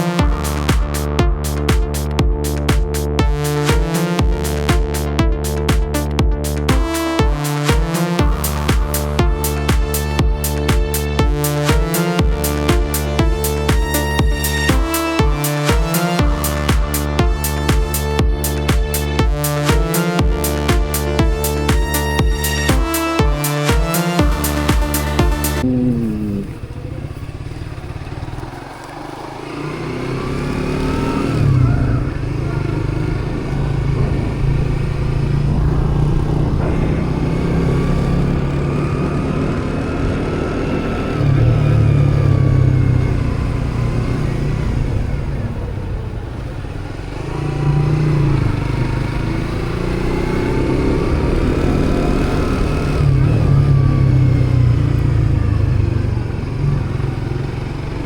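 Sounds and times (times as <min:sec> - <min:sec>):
low rumble: 0:00.0 - 0:28.7, 0:31.3 - 0:58.0
motorcycle engine revving: 0:00.0 - 0:58.0.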